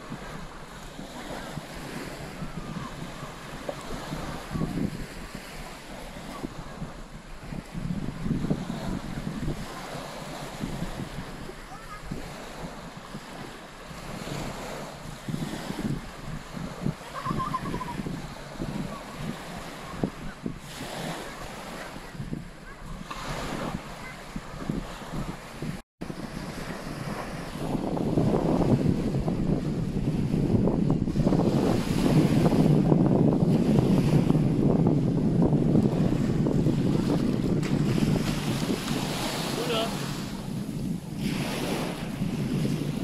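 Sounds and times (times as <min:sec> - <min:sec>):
waves washing onto beach: 0:00.0 - 0:43.0
wind buffeting microphone: 0:00.0 - 0:43.0.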